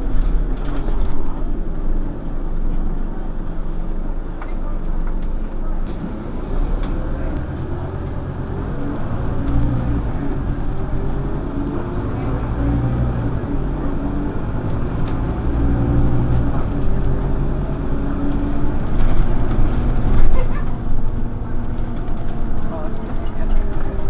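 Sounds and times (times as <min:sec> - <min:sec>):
bus diesel engine: 0:00.0 - 0:24.0.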